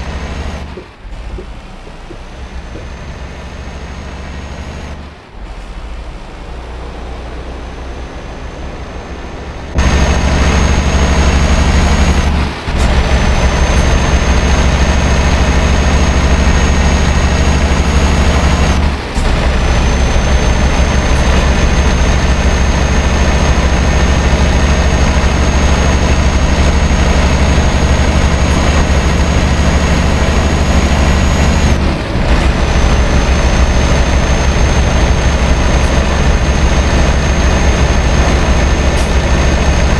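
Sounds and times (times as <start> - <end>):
diesel engine under heavy load: 0.0 - 39.9.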